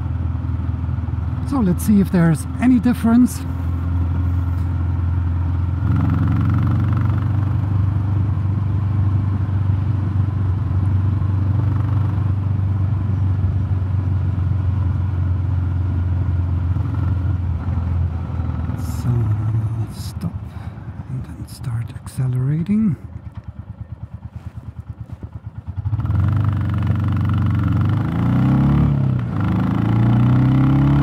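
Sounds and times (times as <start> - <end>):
motorcycle engine and exhaust: 0.0 - 31.0.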